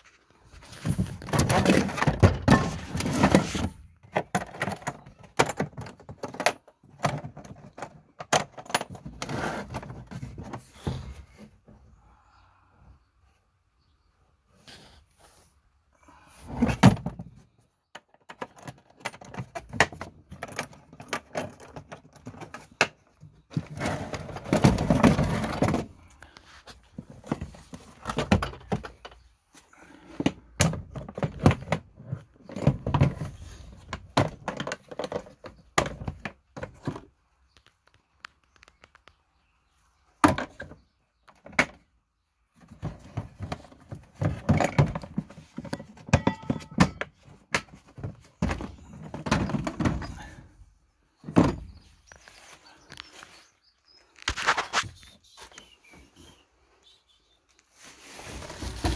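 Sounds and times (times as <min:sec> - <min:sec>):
plastic tool cases being handled: 0:00.0 - 0:11.8, 0:16.4 - 0:39.2, 0:42.5 - 0:56.3, 0:57.5 - 0:58.9.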